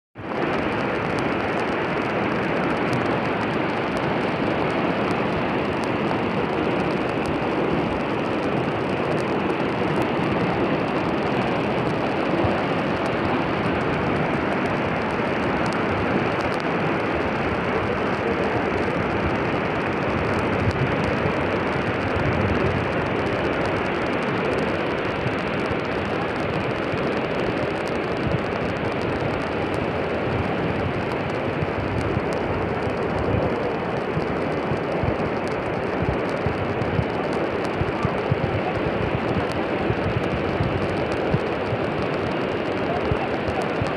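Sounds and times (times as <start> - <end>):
floodwater rushing: 0.2 - 43.9.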